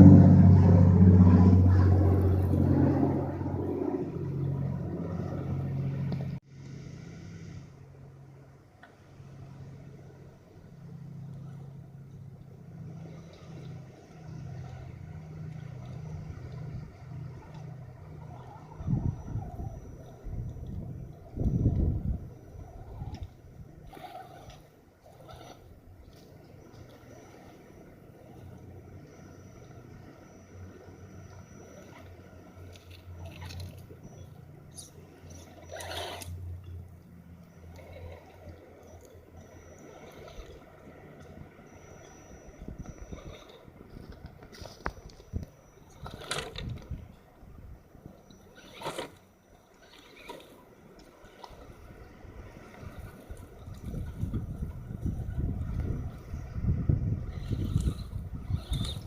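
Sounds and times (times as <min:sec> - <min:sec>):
rc truck motor humming: 0:00.0 - 0:59.0.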